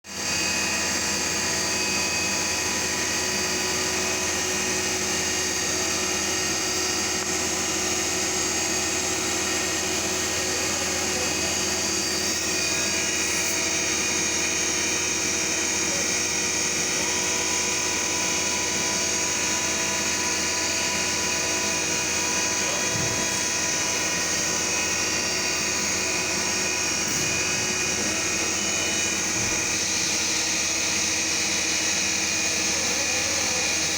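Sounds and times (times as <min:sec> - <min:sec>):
milling machine humming and whining: 0:00.1 - 0:33.9.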